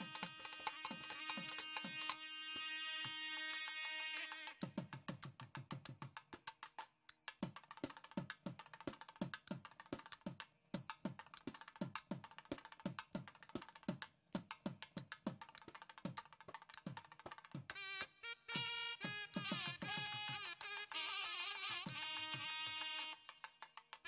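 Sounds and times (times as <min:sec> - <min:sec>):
instrumental music with drum beat: 0:00.0 - 0:24.0.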